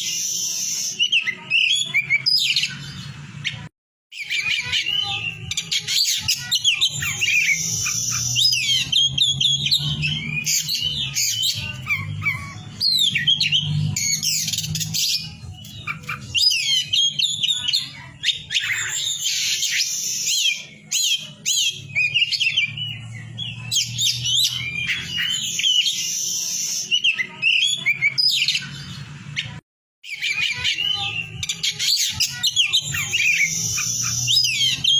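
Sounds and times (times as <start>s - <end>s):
bird singing whistles and chirps: 0.0s - 34.9s.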